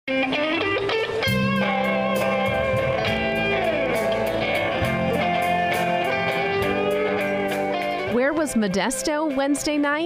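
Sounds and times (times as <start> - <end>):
drums and cymbals: 0.1 - 8.4
guitar line sliding down: 0.1 - 8.5
bass guitar: 0.1 - 10.0
electric guitars: 0.1 - 10.0.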